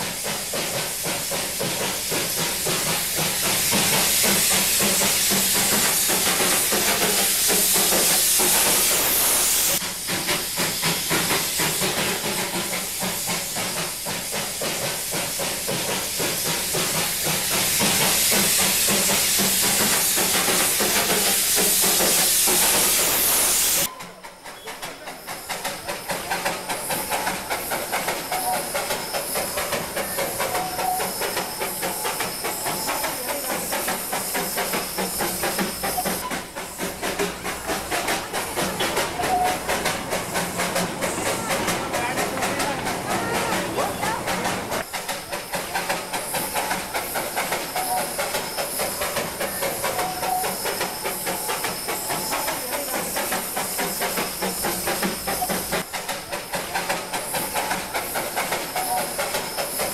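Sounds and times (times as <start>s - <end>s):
steam locomotive exhaust beats: 0.0s - 59.9s
steam locomotive hissing steam: 0.0s - 59.9s.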